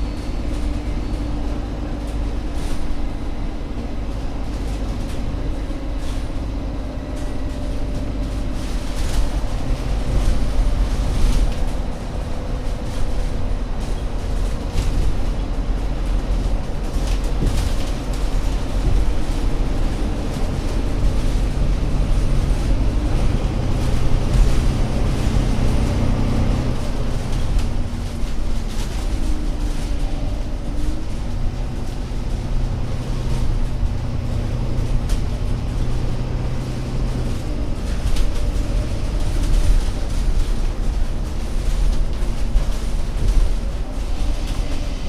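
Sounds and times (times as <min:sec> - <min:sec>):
bus diesel engine drone: 0:00.0 - 0:45.0.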